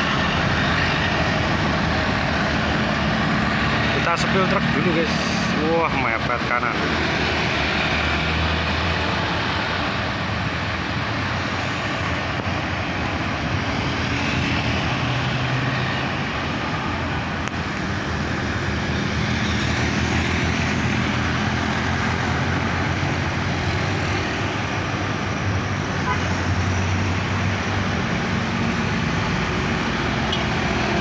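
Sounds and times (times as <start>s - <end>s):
diesel truck engine passing: 0.0s - 11.6s, 13.3s - 31.0s
road and traffic noise: 0.0s - 31.0s.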